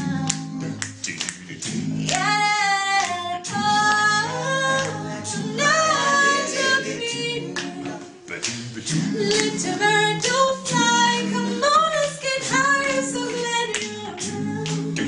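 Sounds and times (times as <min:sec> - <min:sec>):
woman singing: 0:00.0 - 0:00.8, 0:02.1 - 0:08.3, 0:09.1 - 0:15.0
low vocal harmonies: 0:00.0 - 0:15.0.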